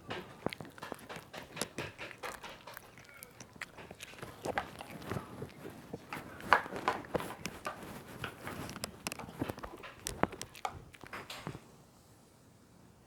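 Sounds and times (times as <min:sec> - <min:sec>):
dog crunching food: 0:00.0 - 0:11.7.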